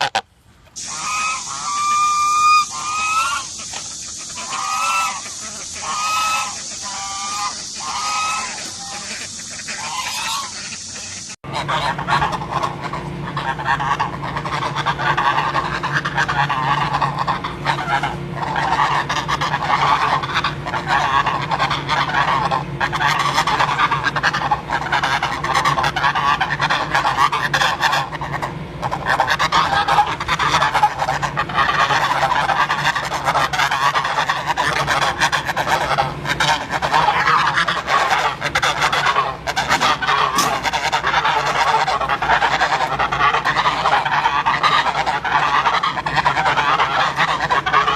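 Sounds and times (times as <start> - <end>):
geese honking: 0.0 - 47.9.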